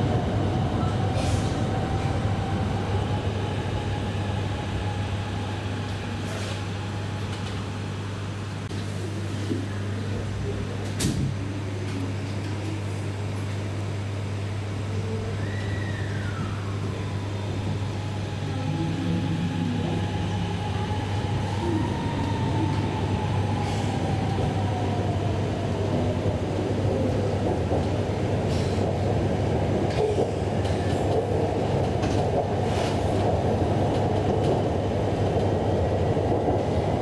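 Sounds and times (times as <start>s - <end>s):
train running noise: 0.0s - 37.0s.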